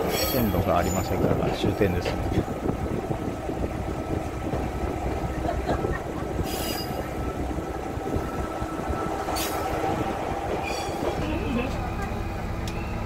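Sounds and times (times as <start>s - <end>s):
railcar engine and wheel rumble: 0.0s - 13.0s.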